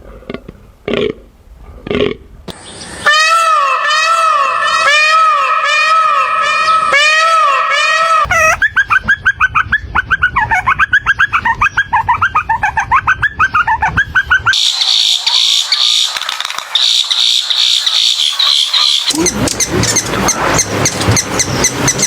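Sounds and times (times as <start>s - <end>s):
bird calls repeated notes: 2.5s - 12.4s, 13.1s - 22.0s
buzzy bird chirping: 2.5s - 22.0s.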